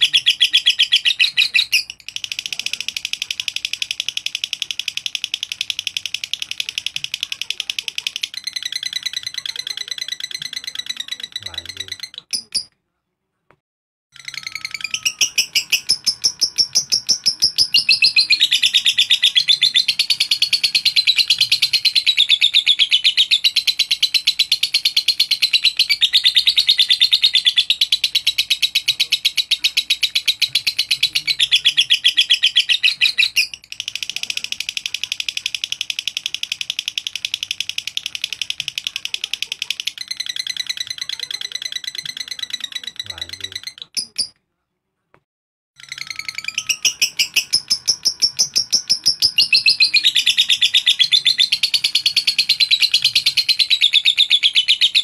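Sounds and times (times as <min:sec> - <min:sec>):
lovebird chattering chirps: 0:00.0 - 0:12.8, 0:14.2 - 0:44.4, 0:45.8 - 0:55.0.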